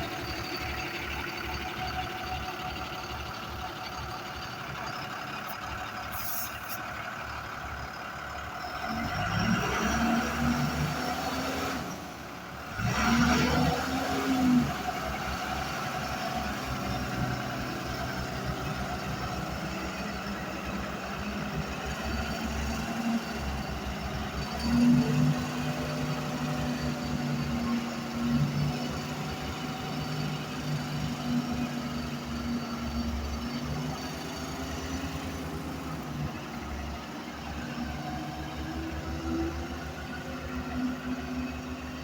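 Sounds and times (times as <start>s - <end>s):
truck engine revving: 0.0s - 42.0s.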